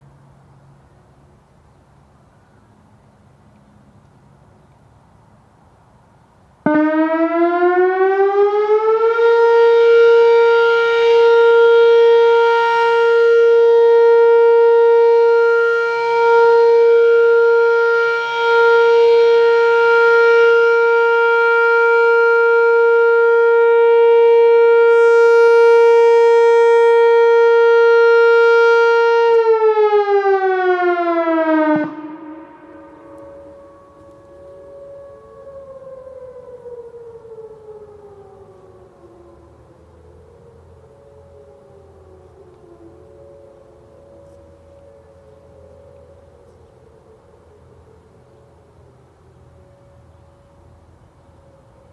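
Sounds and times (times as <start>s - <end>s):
electronic warning siren: 6.6s - 51.9s.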